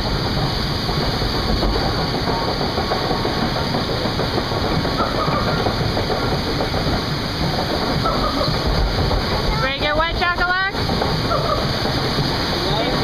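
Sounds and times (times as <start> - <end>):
conveyor clatter: 0.0 - 13.0
ride machinery rumbling: 0.0 - 13.0.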